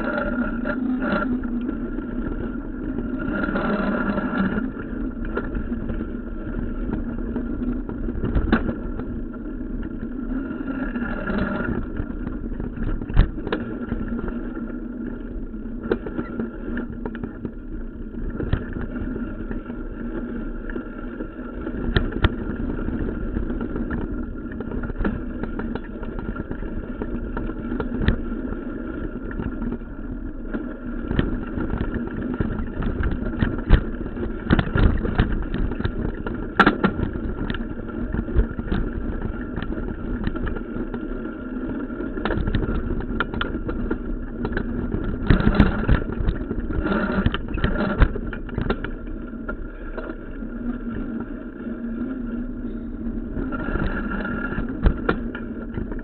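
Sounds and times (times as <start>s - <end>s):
bike knocking and rattling: 0.0s - 20.3s, 21.5s - 51.2s, 52.6s - 56.0s
bike tyre and wind rumble: 0.0s - 56.0s.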